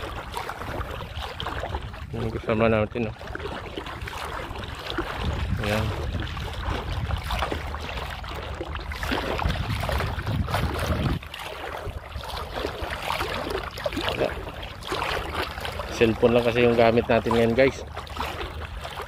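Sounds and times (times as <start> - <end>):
muffled water sloshing and bubbling: 0.0 - 19.0.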